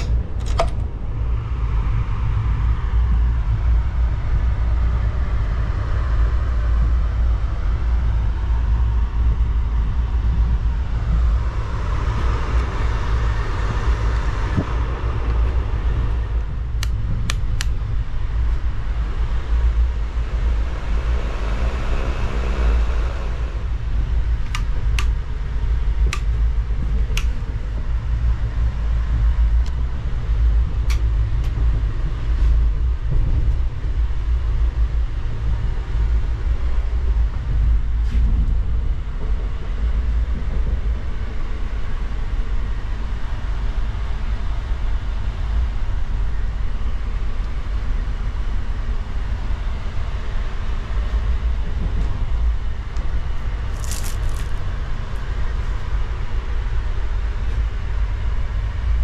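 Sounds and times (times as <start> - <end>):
train carriage low rumble: 0.0 - 59.0.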